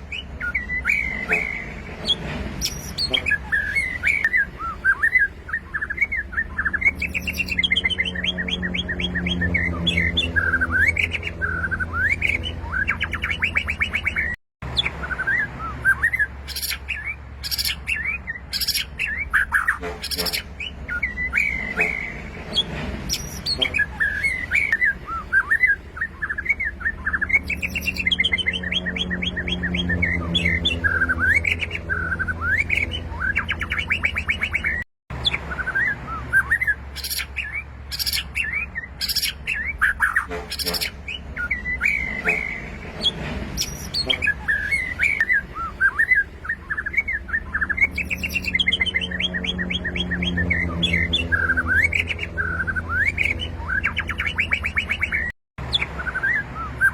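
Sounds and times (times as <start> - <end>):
bird singing whistled song: 0.0 - 56.9.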